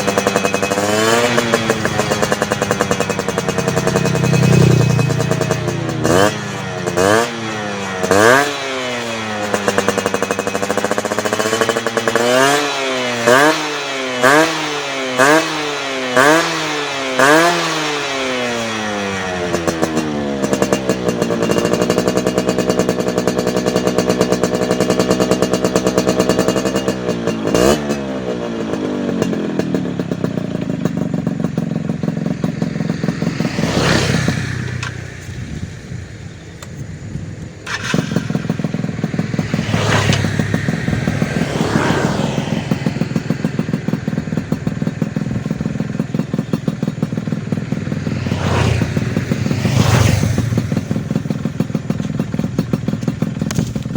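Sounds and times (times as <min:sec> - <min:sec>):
motorcycle engine revving and idling: 0:00.0 - 0:53.9.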